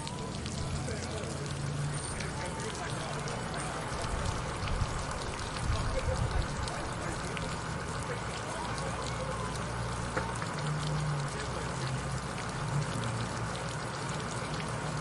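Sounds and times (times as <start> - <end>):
fountain water splashing: 0.0 - 15.0
low city hum: 0.0 - 15.0.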